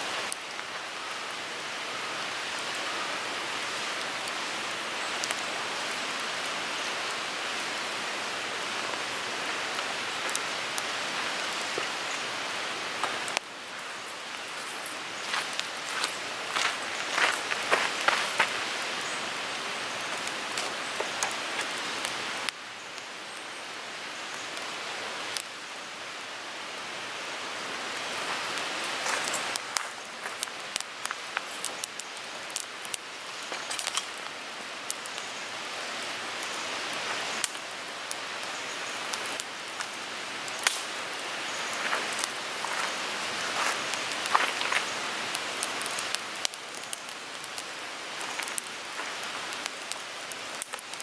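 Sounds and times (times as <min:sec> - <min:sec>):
burning wood crackling: 0:00.0 - 0:51.0
wood fire hissing: 0:00.0 - 0:51.0.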